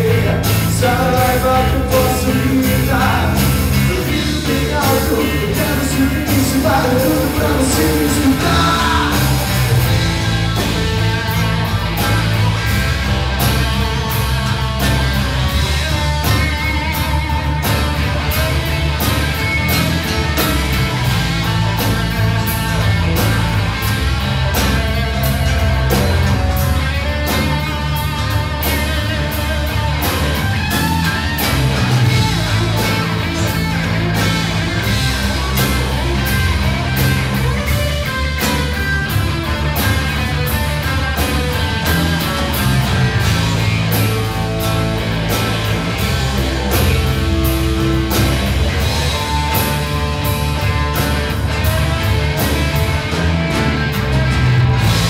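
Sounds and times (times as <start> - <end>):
bass guitar: 0.0 - 55.0
drum beats: 0.0 - 55.0
electric guitars: 0.0 - 55.0.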